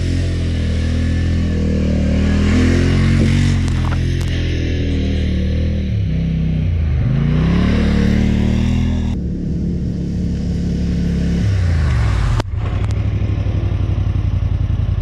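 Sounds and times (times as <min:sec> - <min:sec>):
atv engine revving and idling: 0:00.0 - 0:15.0.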